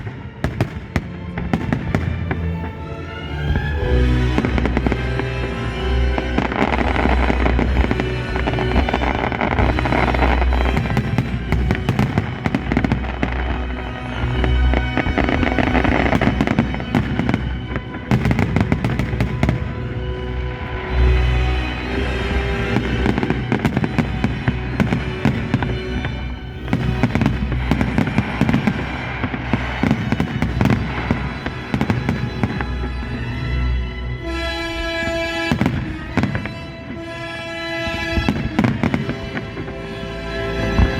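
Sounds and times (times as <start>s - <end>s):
fireworks bangs and crackling: 0.0s - 2.7s, 3.5s - 5.4s, 6.2s - 40.9s
music with low bass: 1.2s - 38.7s.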